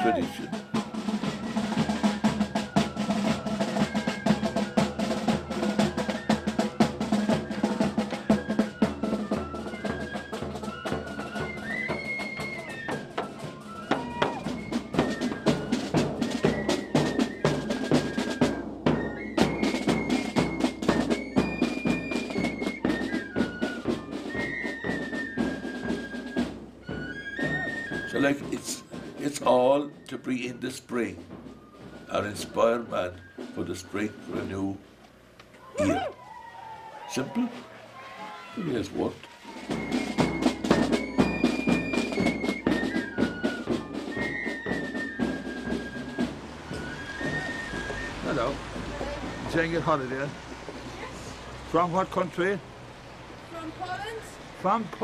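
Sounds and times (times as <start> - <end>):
frame drums and bass drum: 0.0 - 34.8, 39.5 - 52.3
tin whistle melody: 0.0 - 34.8, 39.3 - 50.3.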